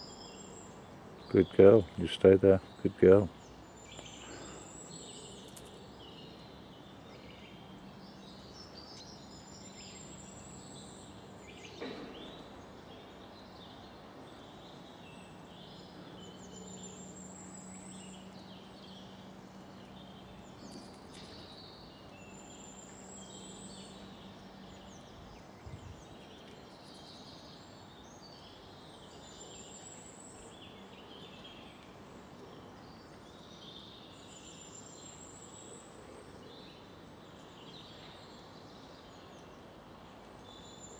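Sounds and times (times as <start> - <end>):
small birds singing: 0.0 - 40.9.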